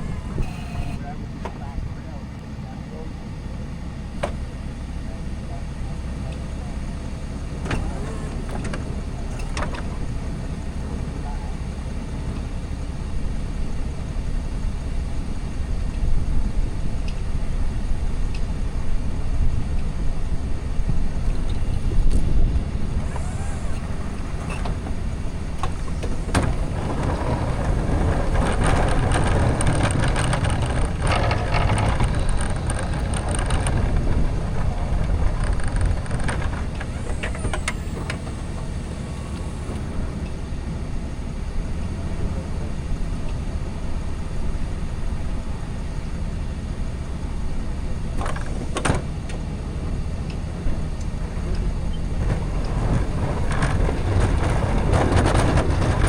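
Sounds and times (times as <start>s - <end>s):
diesel engine rumble: 0.0s - 56.0s
plow scraping snow: 0.0s - 56.0s.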